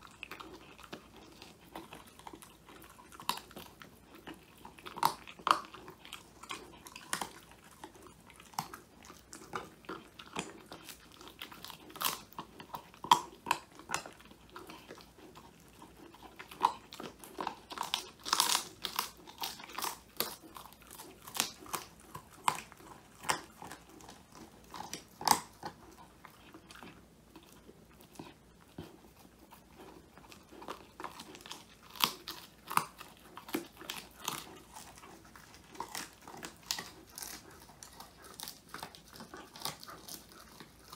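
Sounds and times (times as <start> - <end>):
dog crunching a treat: 0.0 - 40.9.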